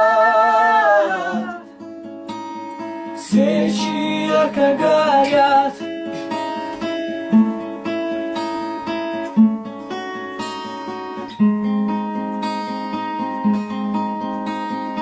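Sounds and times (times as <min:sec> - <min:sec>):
acoustic guitar plucking chords: 0:00.0 - 0:15.0.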